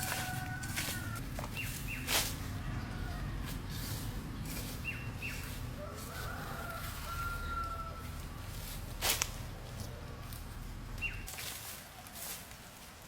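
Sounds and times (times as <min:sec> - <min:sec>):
birds chirping: 0:00.0 - 0:08.5, 0:09.5 - 0:12.1.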